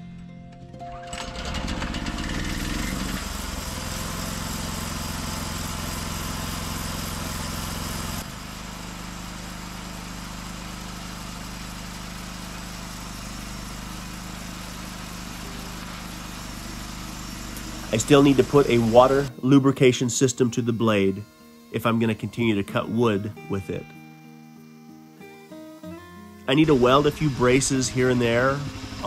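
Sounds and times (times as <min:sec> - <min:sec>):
small engine running: 0:00.8 - 0:29.0.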